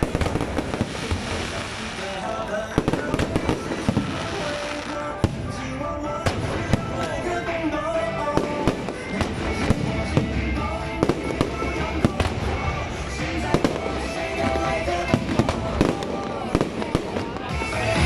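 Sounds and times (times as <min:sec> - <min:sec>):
fireworks bursting: 0:00.0 - 0:18.0
music playing: 0:00.0 - 0:18.0.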